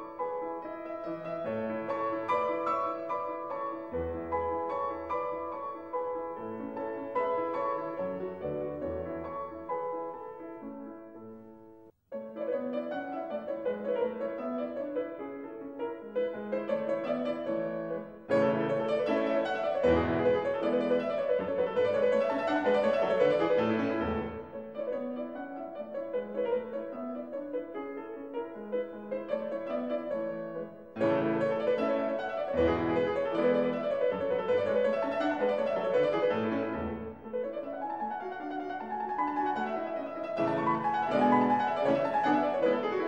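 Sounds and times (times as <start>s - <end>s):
background piano music: 0.0s - 43.0s.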